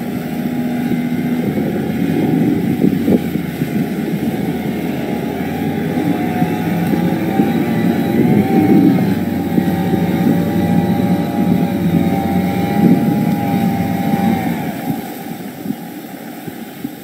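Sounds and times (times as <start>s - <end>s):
motorboat engine running hard: 0.0s - 17.0s
propeller wash churning water: 0.0s - 17.0s.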